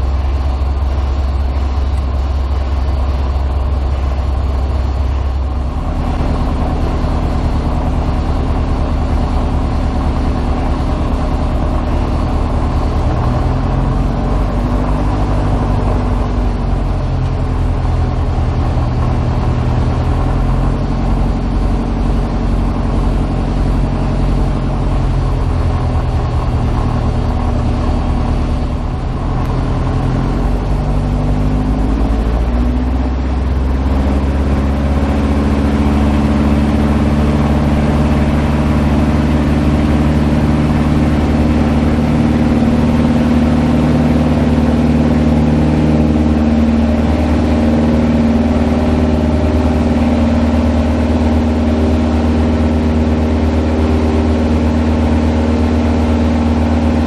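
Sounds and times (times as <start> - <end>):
propeller plane engine: 0.0 - 57.0.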